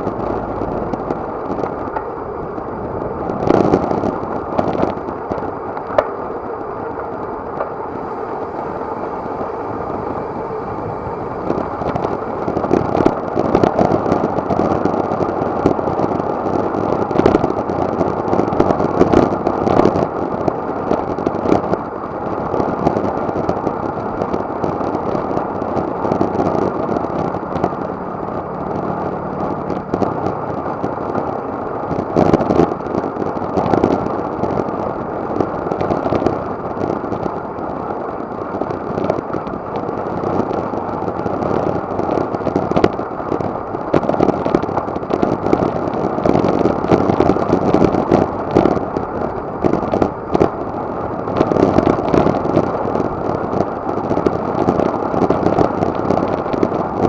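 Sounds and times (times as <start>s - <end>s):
faint steady hum: 0.0s - 57.0s
tyre and road noise: 0.0s - 57.0s
wind buffeting microphone: 0.0s - 57.0s.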